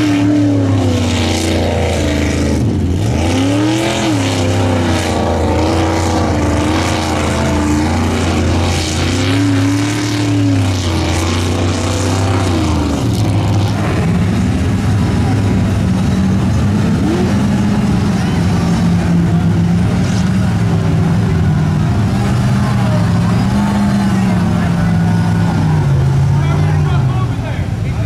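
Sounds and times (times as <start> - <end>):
truck engine revving: 0.0 - 28.0
tyres churning mud and water: 0.0 - 28.0.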